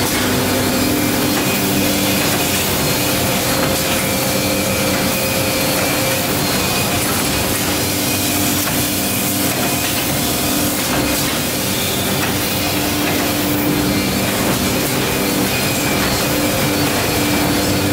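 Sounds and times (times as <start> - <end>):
bindery machine running: 0.0 - 17.9
machine hum tones: 0.0 - 17.9.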